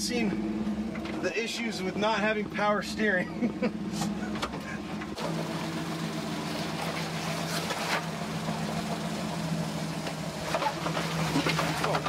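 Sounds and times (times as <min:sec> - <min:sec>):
truck engine running low: 0:00.0 - 0:12.0.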